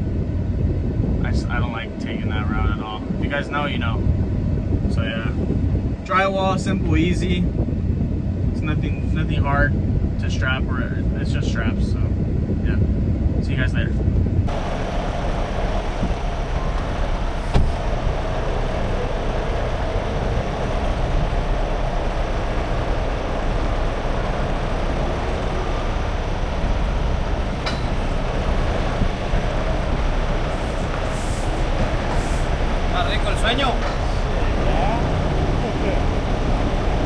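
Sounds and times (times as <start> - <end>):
truck engine and road rumble: 0.0 - 37.0.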